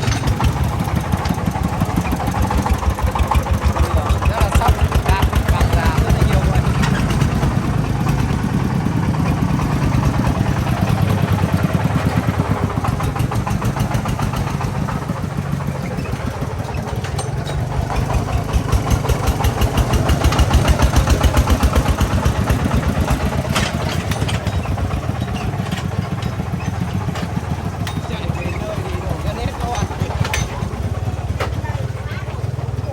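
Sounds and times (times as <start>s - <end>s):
diesel engine chugging: 0.0s - 32.9s.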